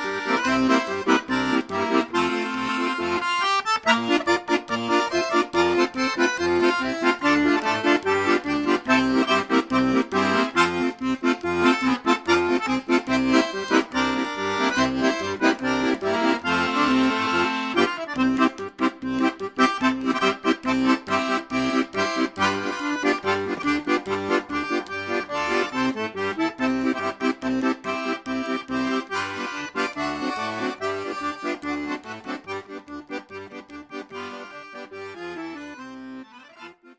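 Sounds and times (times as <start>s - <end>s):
accordion playing a tune: 0.0s - 36.9s.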